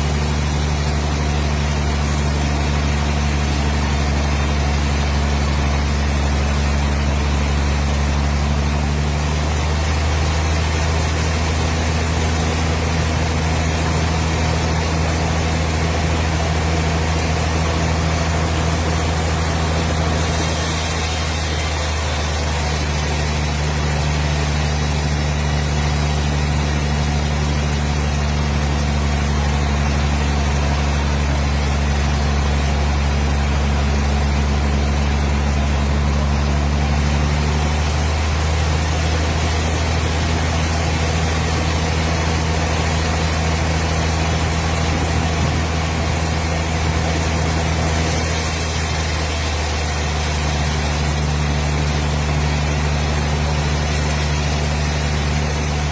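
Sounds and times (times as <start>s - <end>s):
engine humming: 0.0s - 55.9s.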